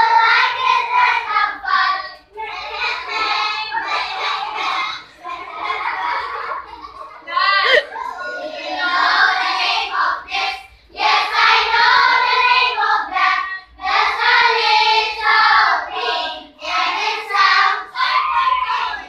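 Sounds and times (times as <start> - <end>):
children singing in unison: 0.0 - 6.1, 7.7 - 19.0.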